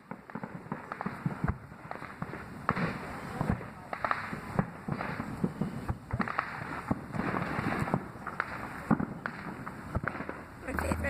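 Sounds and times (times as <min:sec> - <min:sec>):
fireworks bangs and booms: 0:00.0 - 0:11.0
fireworks crackling hiss: 0:00.0 - 0:11.0.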